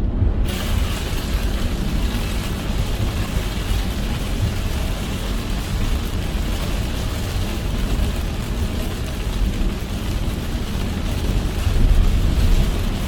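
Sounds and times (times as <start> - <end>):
road and tyre rumble: 0.0 - 13.0
rain drumming on car: 0.3 - 13.0.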